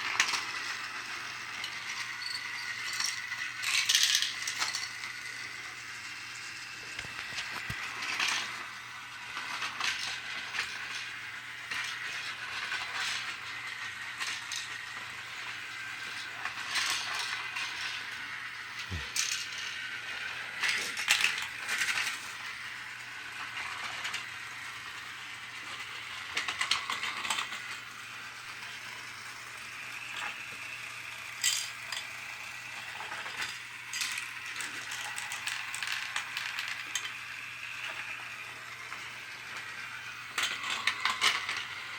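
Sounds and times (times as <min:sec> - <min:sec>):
toy motor and gears whirring: 0:00.0 - 0:41.9.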